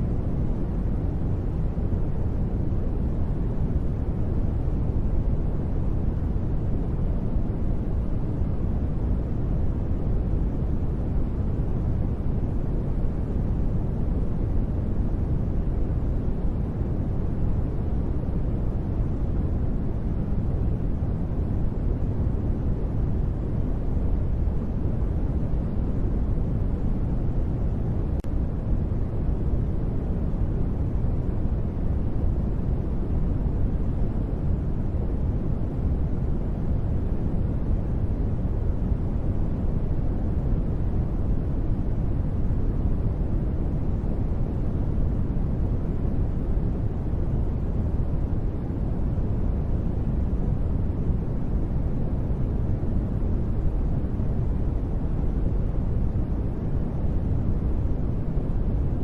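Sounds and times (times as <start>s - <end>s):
deep rumbling steady noise: 0.0s - 59.0s.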